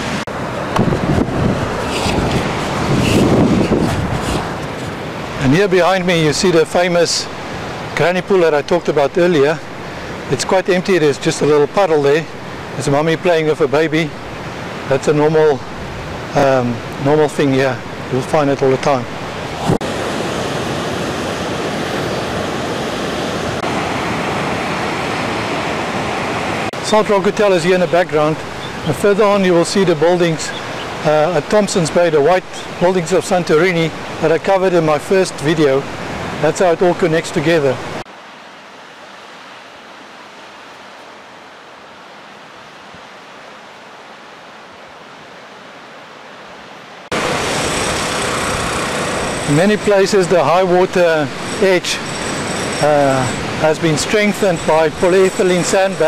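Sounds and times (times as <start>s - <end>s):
waves breaking on a beach: 0.0s - 56.0s
wind: 0.0s - 56.0s.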